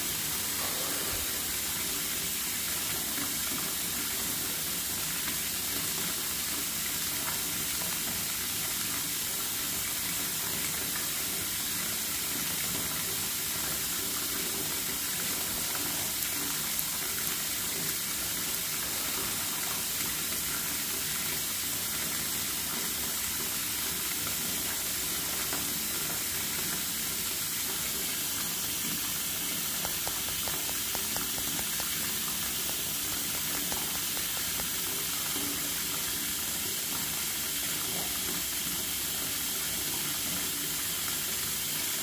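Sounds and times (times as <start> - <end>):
steady hiss: 0.0 - 7.0, 9.0 - 42.0.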